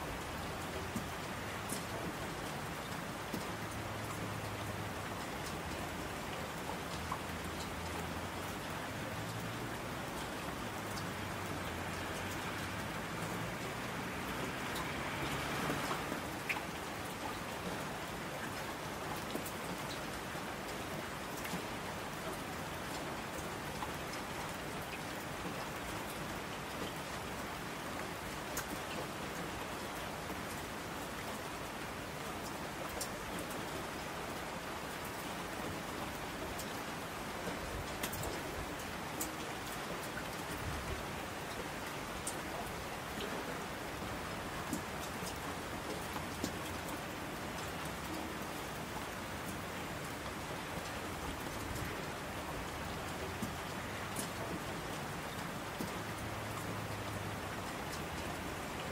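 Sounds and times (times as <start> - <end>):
steady rain hiss: 0.0 - 58.9
rain drop ticks: 0.2 - 27.6, 28.4 - 33.8, 35.0 - 58.9.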